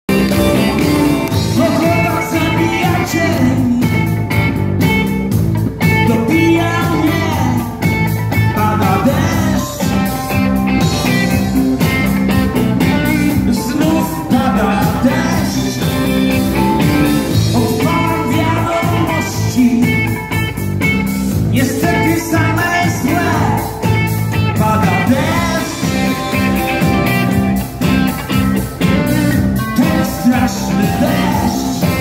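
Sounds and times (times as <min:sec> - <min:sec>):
drums: 0:00.0 - 0:32.0
man singing: 0:00.1 - 0:04.4, 0:05.8 - 0:20.5, 0:21.4 - 0:27.4, 0:28.8 - 0:32.0
electric guitar: 0:00.1 - 0:32.0.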